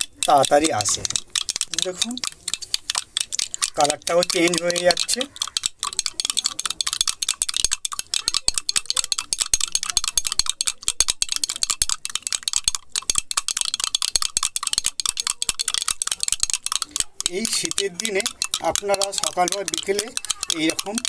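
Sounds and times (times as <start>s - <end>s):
spoon beating in a glass mug: 0.0s - 21.0s.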